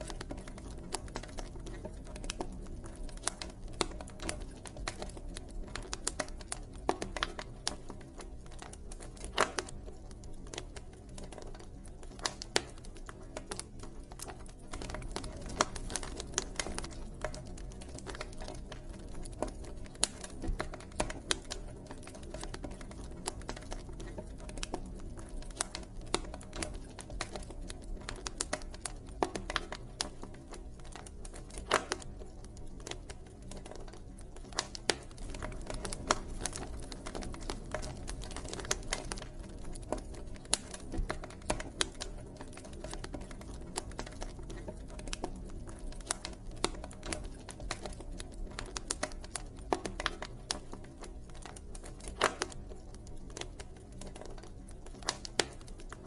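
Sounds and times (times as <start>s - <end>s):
campfire pops and snaps: 0.0s - 56.0s
low rumble of burning fire: 0.0s - 56.0s.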